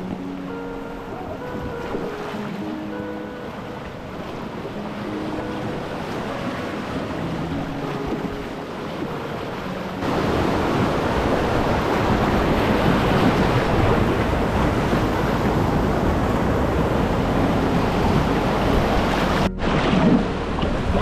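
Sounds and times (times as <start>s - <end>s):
river rapids rushing: 0.0s - 21.0s
wind on microphone: 0.0s - 21.0s.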